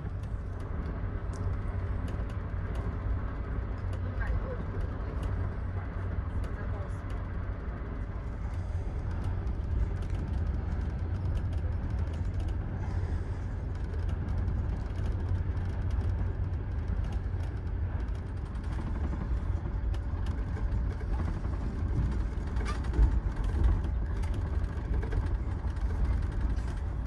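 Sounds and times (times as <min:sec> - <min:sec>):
light clicks and rattles: 0:00.0 - 0:27.0
train running on track: 0:00.0 - 0:27.0.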